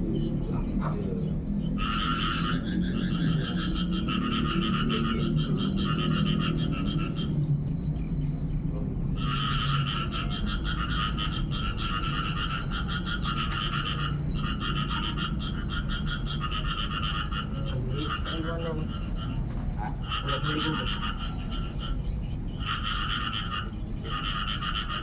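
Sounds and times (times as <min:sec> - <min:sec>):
rapid pulsing trill call: 0:00.0 - 0:07.5, 0:09.1 - 0:25.0
steady low hum: 0:00.0 - 0:25.0.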